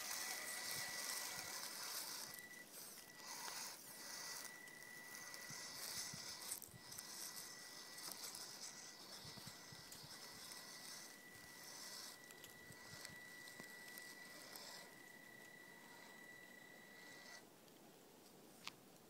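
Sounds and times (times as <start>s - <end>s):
tyres crackling on dry leaves: 0.0s - 17.4s
electric motor whine and hiss: 0.0s - 17.5s.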